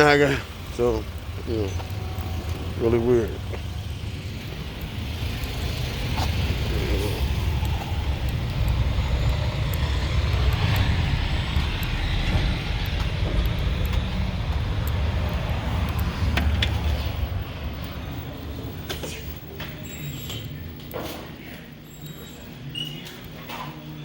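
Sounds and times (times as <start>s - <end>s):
vehicle rumble inside car: 0.0s - 19.5s.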